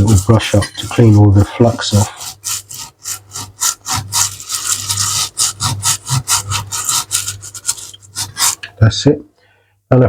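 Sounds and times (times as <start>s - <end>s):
brush scrubbing circuit board: 0.0s - 8.7s.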